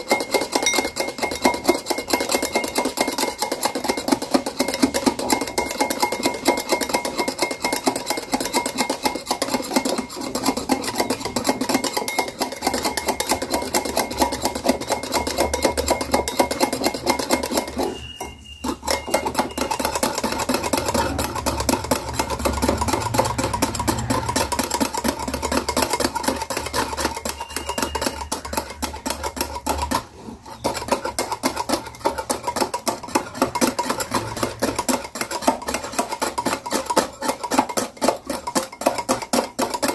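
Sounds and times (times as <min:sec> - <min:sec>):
wire whisk clinking in glass bowl: 0:00.0 - 0:39.9.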